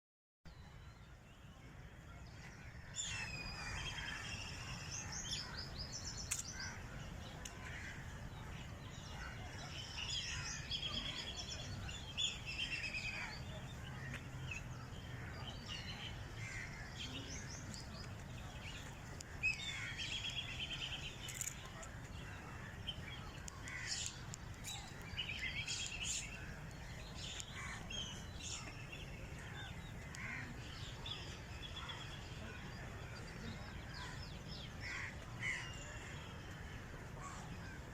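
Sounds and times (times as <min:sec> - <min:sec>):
birds chirping and trilling: 0:00.5 - 0:37.9.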